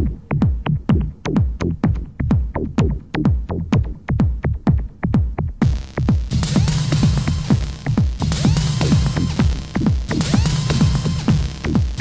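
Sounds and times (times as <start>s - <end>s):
techno beat: 0.0s - 12.0s.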